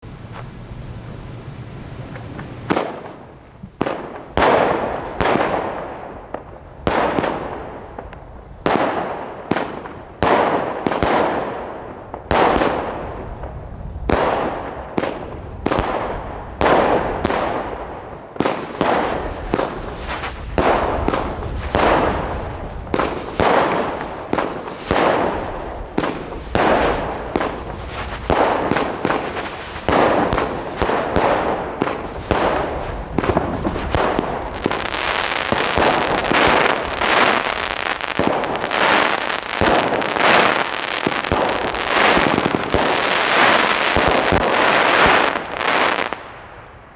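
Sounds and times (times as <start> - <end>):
firework bangs with crackle: 0.2 - 46.9.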